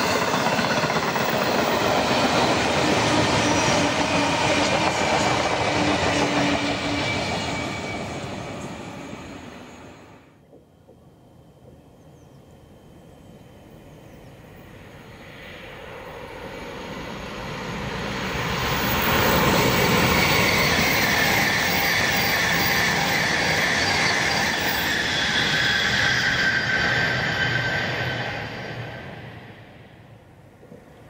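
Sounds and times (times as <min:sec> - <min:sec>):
train passing at speed: 0:00.0 - 0:31.0.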